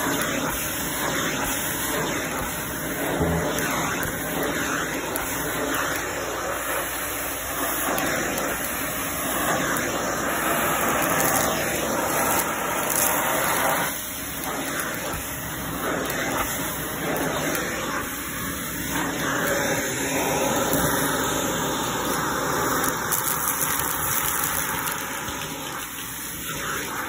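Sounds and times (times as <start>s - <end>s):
handheld vacuum running: 0.0s - 27.0s.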